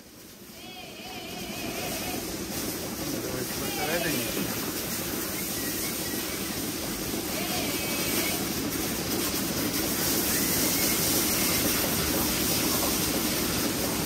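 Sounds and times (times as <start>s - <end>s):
hose spray washing metal: 0.0s - 14.0s.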